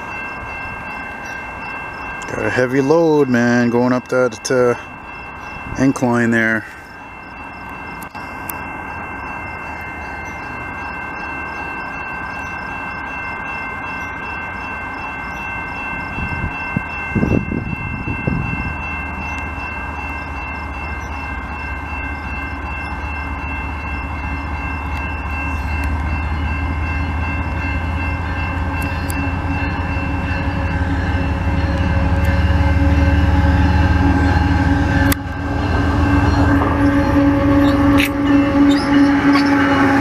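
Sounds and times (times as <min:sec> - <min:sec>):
diesel locomotive engines rumbling: 0:00.0 - 0:40.0
level crossing bells ringing: 0:00.0 - 0:40.0.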